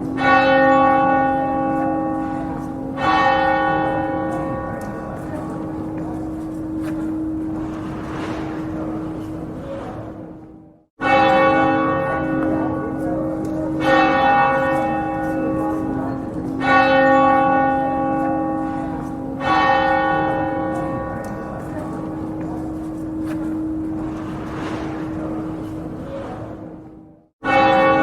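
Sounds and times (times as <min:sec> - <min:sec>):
church bell tolling: 0:00.0 - 0:28.0.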